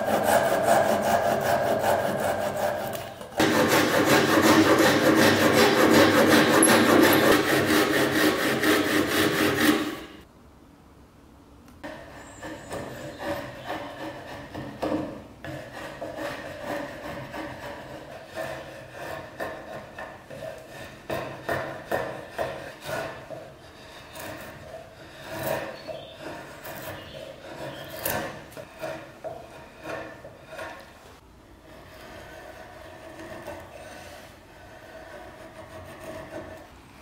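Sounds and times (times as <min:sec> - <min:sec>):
blade scraping wood: 0:00.0 - 0:10.3, 0:11.8 - 0:36.8.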